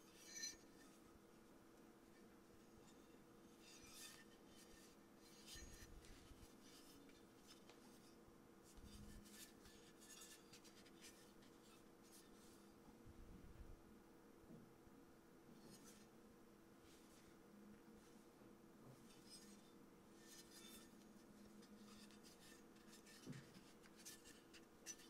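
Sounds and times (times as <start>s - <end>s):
light rubbing and scraping: 0.0s - 12.7s, 15.5s - 16.1s, 18.0s - 25.0s
low steady hum: 0.0s - 25.0s.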